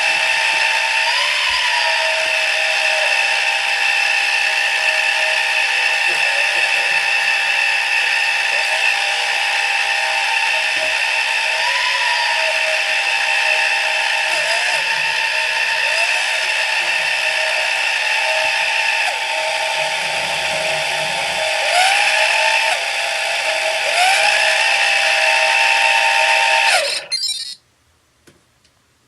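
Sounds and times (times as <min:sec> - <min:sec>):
drone motors whining: 0:00.0 - 0:27.6.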